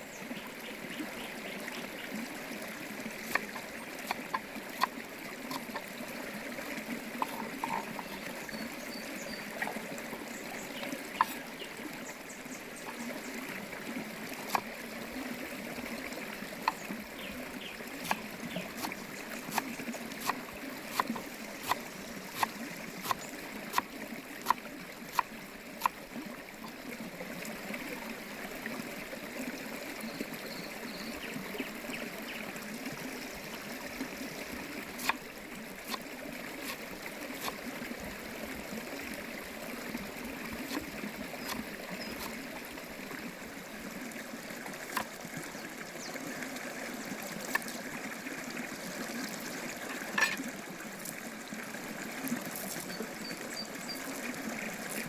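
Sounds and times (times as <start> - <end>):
running water trickling: 0.0 - 55.0.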